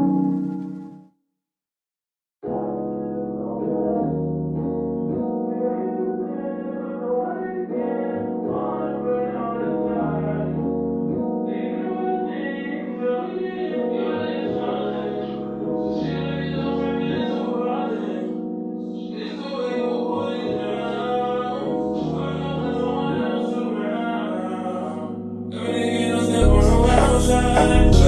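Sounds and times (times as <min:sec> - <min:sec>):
background music with chords: 0:00.0 - 0:01.0, 0:02.5 - 0:28.0.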